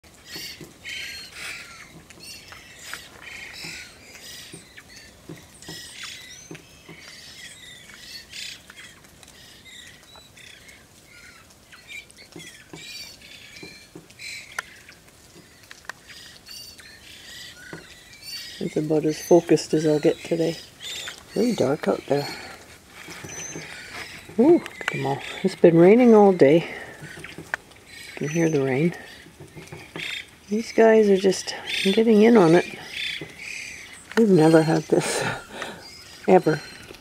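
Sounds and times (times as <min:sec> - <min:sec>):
rain falling: 0:00.0 - 0:37.0
thrushes calling: 0:00.0 - 0:37.0.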